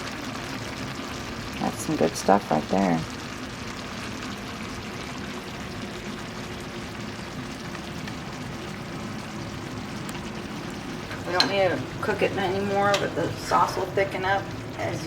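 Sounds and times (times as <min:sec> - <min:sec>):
stir fry sizzling in pan: 0:00.0 - 0:15.0.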